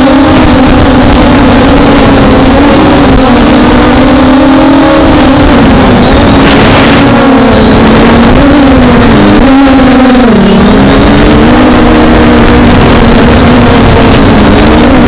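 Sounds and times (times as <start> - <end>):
drone motors humming: 0.0 - 15.0
wind rumble on microphone: 0.0 - 15.0.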